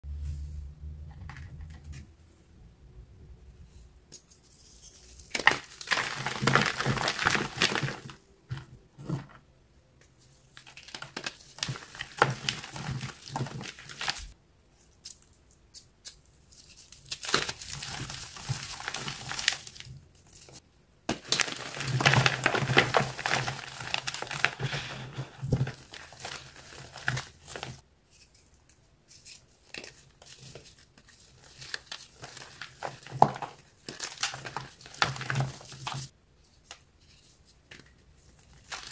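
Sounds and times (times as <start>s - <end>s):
hands crushing chalky blocks: 4.1s - 9.4s, 10.0s - 38.9s.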